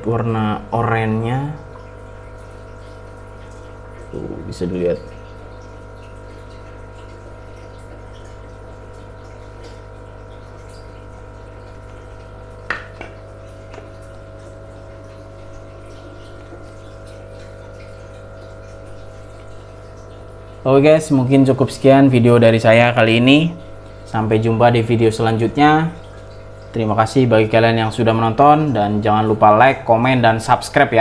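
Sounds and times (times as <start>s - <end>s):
aquarium filter pump humming: 0.0s - 31.0s
water trickling: 0.0s - 31.0s.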